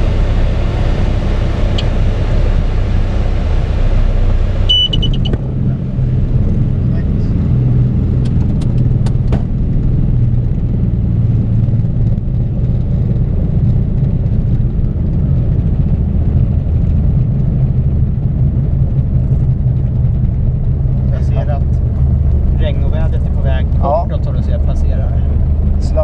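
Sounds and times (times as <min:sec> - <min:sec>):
plane engine idling: 0:00.0 - 0:26.0.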